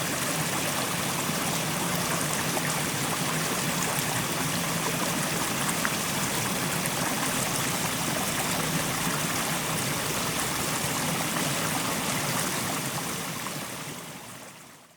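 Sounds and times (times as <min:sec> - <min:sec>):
stream rushing over rocks: 0:00.0 - 0:14.9.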